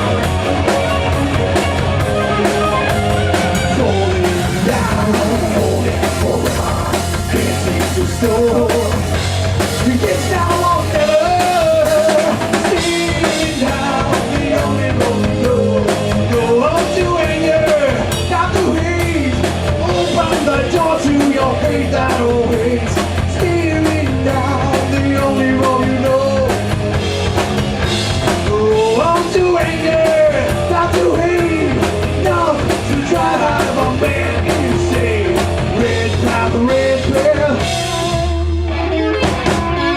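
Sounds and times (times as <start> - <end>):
person singing: 0.0 - 26.7, 28.4 - 39.3
drum kit: 0.0 - 39.9
guitars: 0.0 - 39.9.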